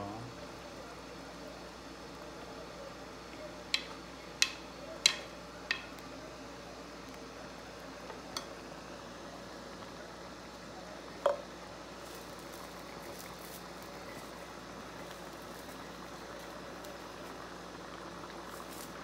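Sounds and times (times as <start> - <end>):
porridge simmering with hiss: 0.0 - 19.0.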